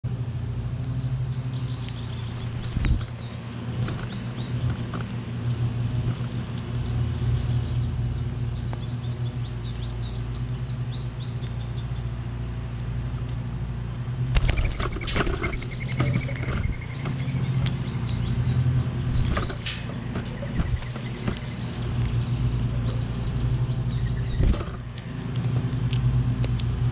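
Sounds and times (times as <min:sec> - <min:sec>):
steady low hum: 0:00.0 - 0:26.9
small birds chirping: 0:00.1 - 0:26.9.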